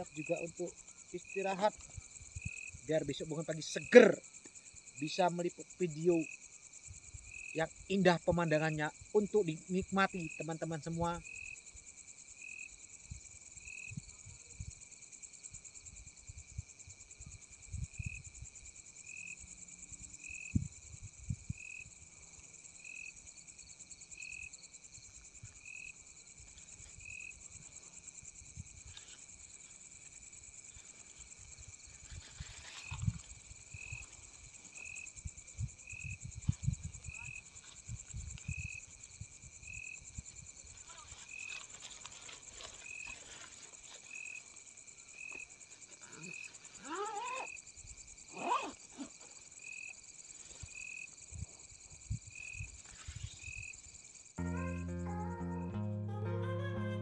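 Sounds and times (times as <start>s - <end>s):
high-pitched insect trill: 0.0s - 55.4s
insect chirping: 0.0s - 55.8s.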